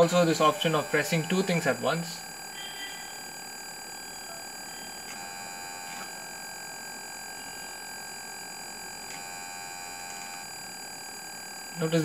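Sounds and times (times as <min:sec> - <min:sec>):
electronic buzz of high tones: 0:00.0 - 0:12.0.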